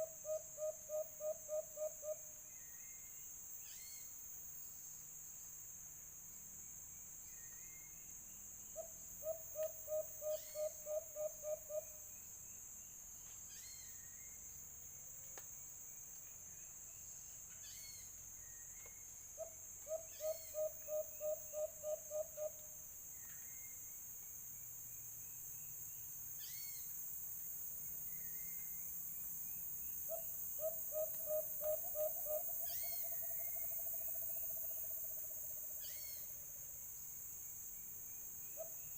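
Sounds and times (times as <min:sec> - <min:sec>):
insect buzz: 0:00.0 - 0:38.9.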